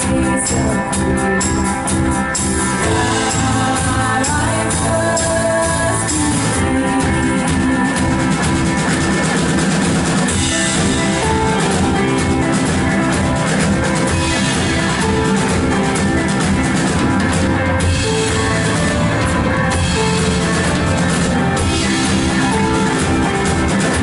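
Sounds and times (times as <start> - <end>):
worship band playing: 0.0 - 24.0.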